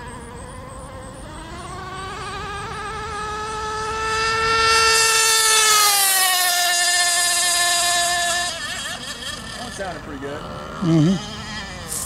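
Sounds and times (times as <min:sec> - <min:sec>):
model boat engine buzzing: 0:00.0 - 0:12.0.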